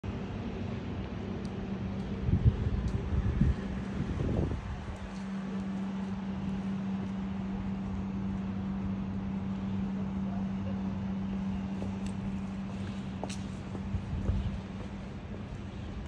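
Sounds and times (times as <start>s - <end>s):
city street background noise: 0.0s - 16.0s
steady low hum: 0.0s - 16.0s.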